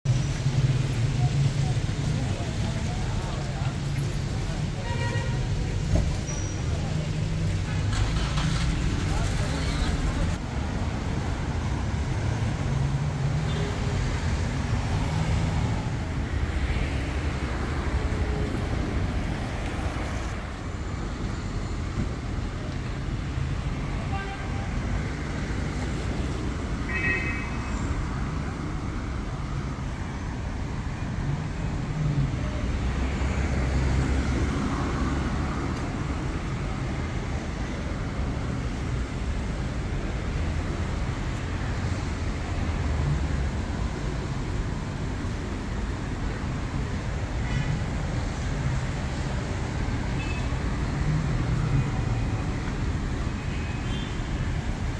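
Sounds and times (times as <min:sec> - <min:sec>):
low rumble of engines and tyres: 0:00.0 - 0:54.9
cars passing: 0:00.1 - 0:54.9.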